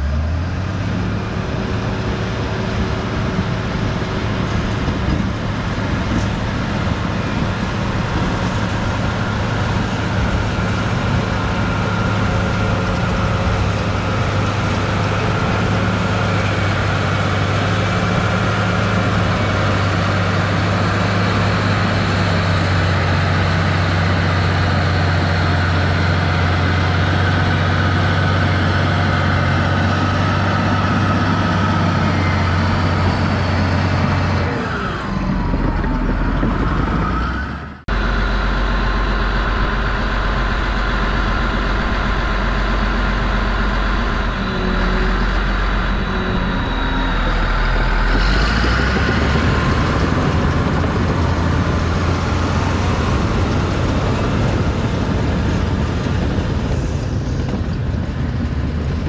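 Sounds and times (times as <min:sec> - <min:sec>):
dozer blade pushing dirt: 0:00.0 - 0:56.5
bulldozer diesel engine running: 0:00.0 - 0:59.0.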